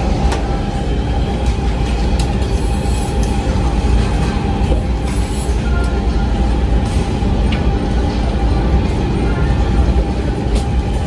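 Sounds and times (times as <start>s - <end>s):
mid-pitched hum: 0.0s - 11.0s.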